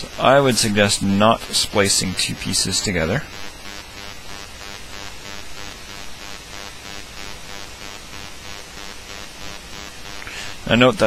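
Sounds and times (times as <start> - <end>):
static-like background hiss: 0.0 - 11.0.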